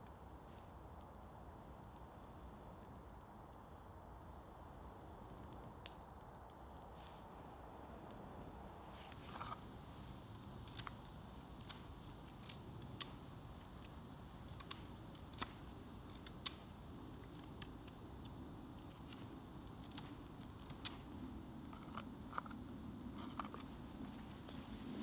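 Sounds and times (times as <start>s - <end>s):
campfire crackling and popping: 0.0s - 25.0s
low rush of fire: 0.0s - 25.0s.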